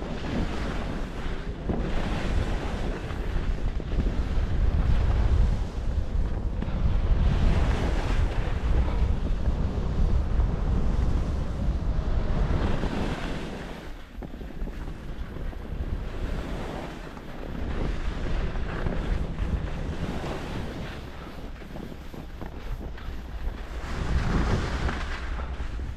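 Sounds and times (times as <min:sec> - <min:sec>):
skis sliding on packed snow: 0:00.0 - 0:25.9
wind rushing over microphone: 0:00.0 - 0:25.9.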